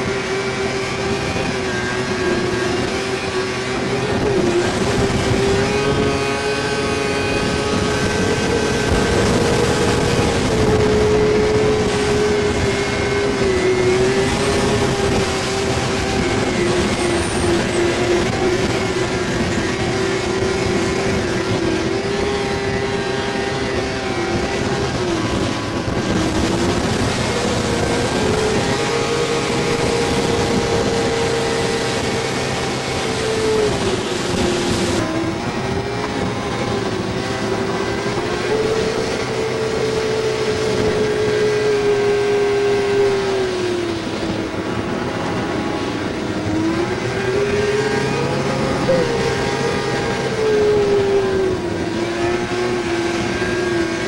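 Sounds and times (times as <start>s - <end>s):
snowmobile engine at high revs: 0.0s - 54.0s.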